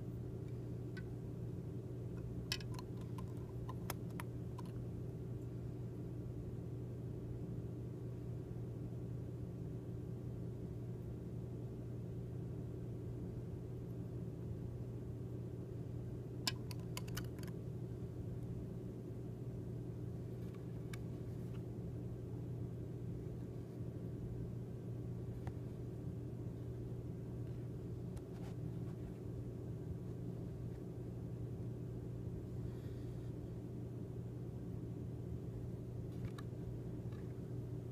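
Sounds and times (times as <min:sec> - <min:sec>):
low mechanical hum: 0:00.0 - 0:37.9.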